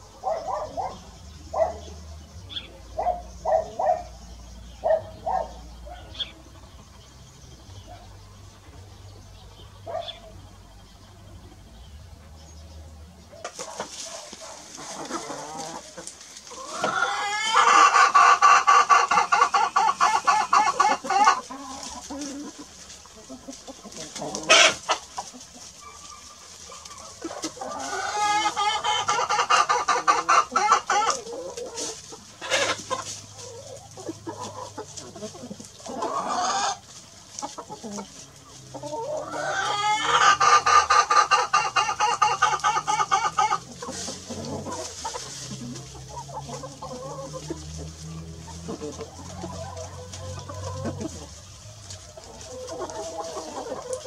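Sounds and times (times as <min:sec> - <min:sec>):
hens clucking: 0:00.0 - 0:54.0.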